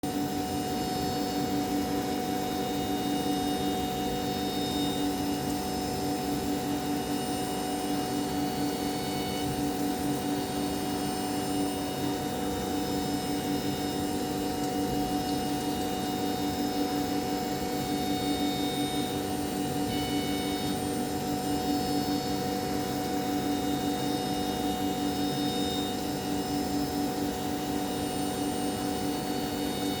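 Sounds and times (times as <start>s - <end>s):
milling machine humming: 0.1s - 30.0s
spindle whining tones: 0.3s - 30.0s.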